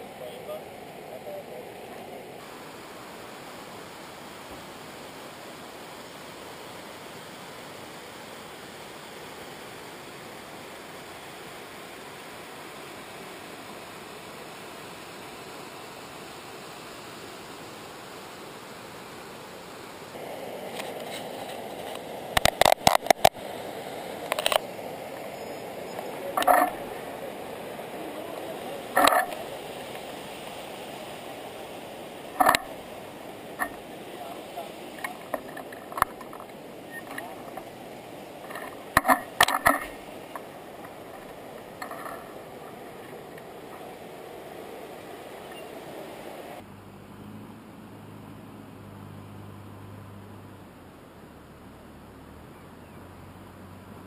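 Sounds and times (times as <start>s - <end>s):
flooded river rushing: 0.0s - 54.0s.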